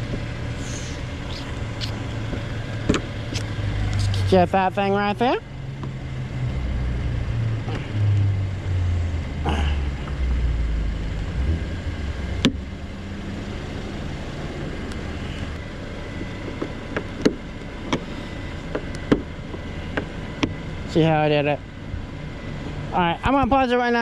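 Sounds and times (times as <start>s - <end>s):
low rumbling noise: 0.0s - 24.0s.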